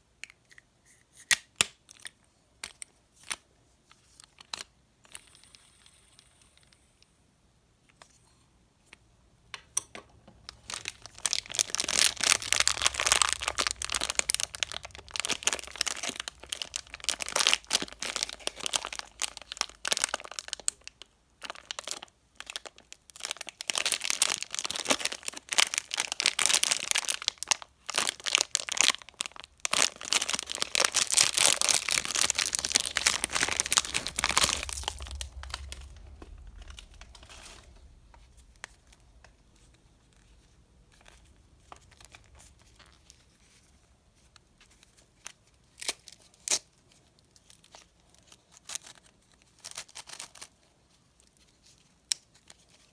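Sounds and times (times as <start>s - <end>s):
candy wrappers crinkling: 10.4s - 52.9s.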